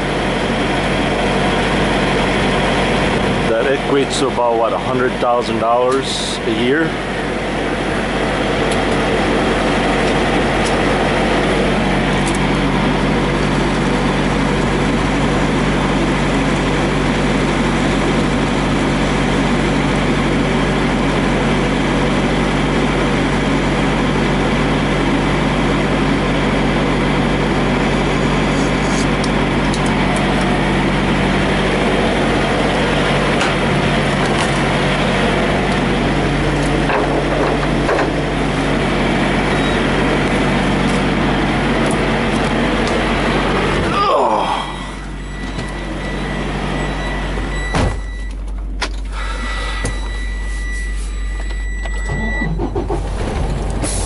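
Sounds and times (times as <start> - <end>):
diesel truck engines idling: 0.0 - 54.0.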